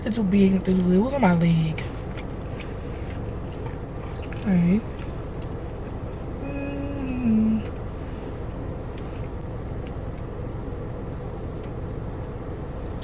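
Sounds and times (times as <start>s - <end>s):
car rumble inside cabin: 0.0s - 13.0s.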